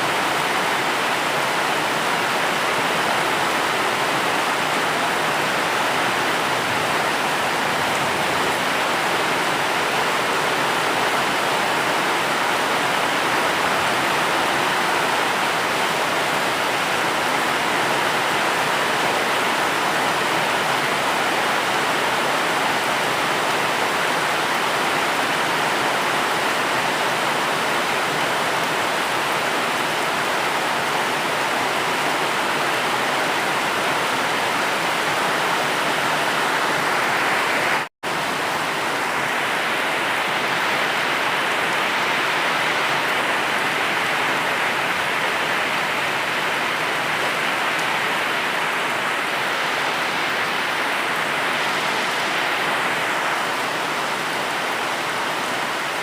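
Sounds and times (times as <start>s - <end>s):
steady rainfall hiss: 0.0s - 56.0s.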